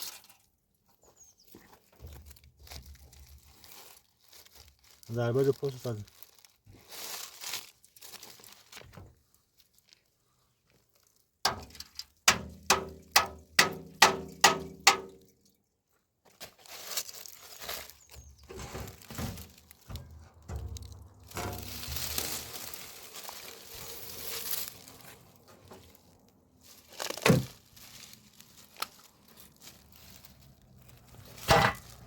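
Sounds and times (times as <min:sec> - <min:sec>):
rustling and crinkling: 0:00.0 - 0:32.0.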